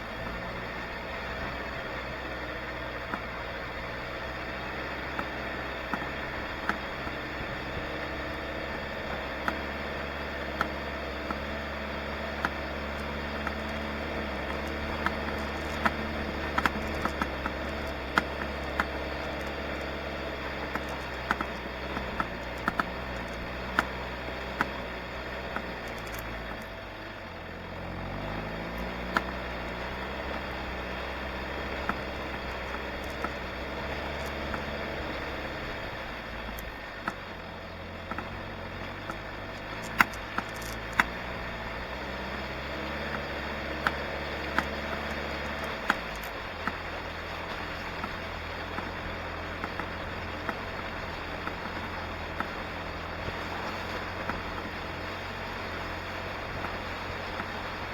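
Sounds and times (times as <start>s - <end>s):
engine running: 0.0s - 57.9s
sharp clicks and knocks: 4.4s - 26.8s, 28.2s - 55.0s.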